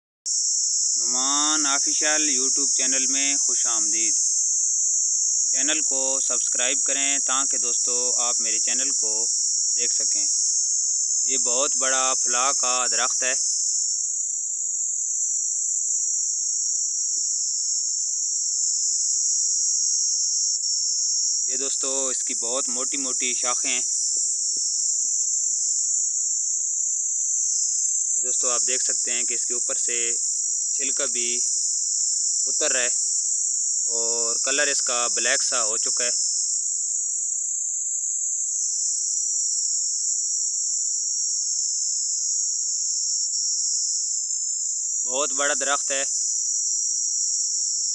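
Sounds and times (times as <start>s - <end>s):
high-pitched insect chorus: 0.3s - 47.9s.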